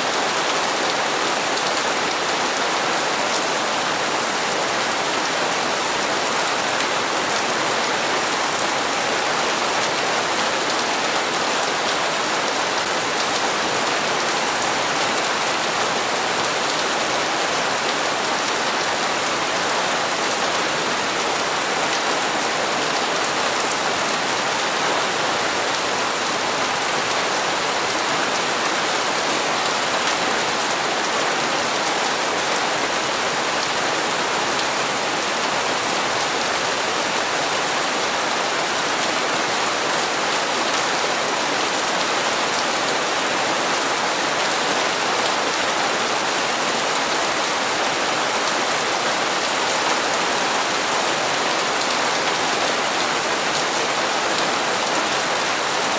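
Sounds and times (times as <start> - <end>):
rain on hard surfaces: 0.0 - 55.9.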